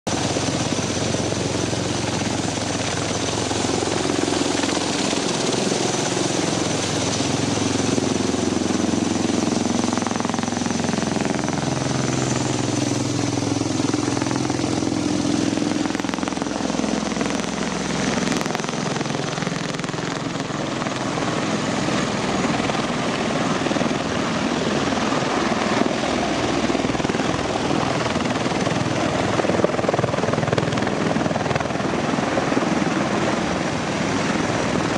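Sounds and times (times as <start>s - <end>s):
tiltrotor aircraft pulsing beat: 0.1s - 33.5s.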